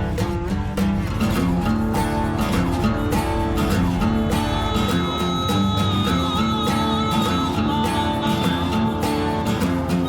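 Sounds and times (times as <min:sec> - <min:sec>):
guitar-led rock music: 0:00.0 - 0:10.0.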